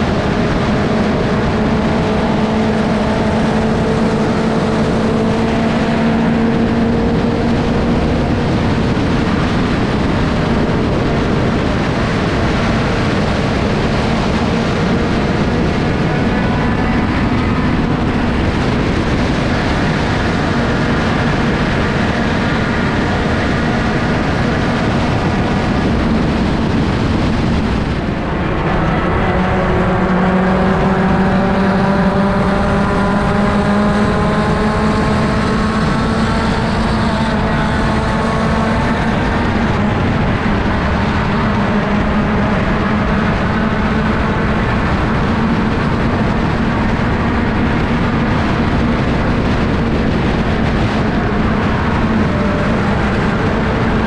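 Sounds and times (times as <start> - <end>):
race car engine running hard: 0.0 - 54.0.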